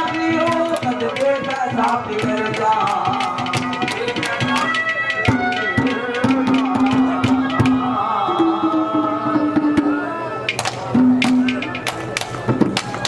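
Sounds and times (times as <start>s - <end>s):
hand drum strokes: 0.0s - 13.0s
wavering held melody: 0.0s - 13.0s.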